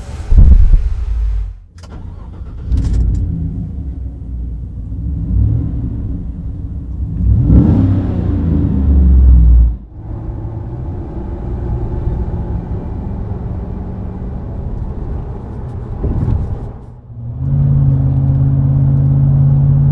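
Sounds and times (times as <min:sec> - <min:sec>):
pickup truck engine revving: 0:00.0 - 0:16.8.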